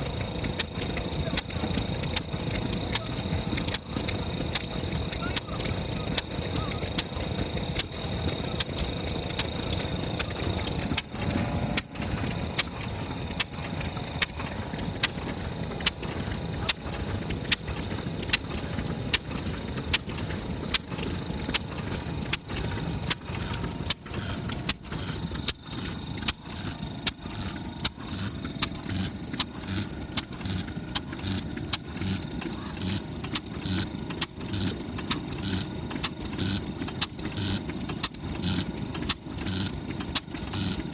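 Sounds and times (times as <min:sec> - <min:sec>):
low mechanical rumble: 0:00.0 - 0:40.9
stationary engine firing beats: 0:00.0 - 0:40.9.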